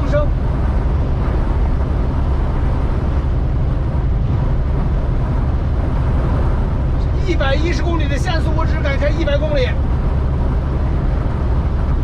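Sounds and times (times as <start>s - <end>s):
engine and road rumble: 0.0s - 12.0s
wind howling around truck cab: 0.0s - 12.0s.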